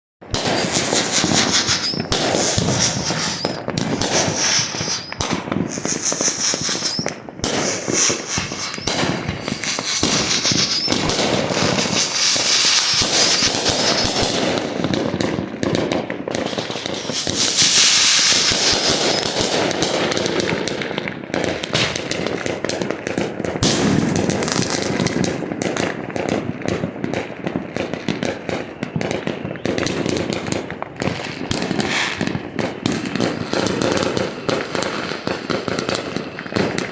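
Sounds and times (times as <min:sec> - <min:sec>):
fireworks and firecrackers crackling: 0:00.2 - 0:36.9.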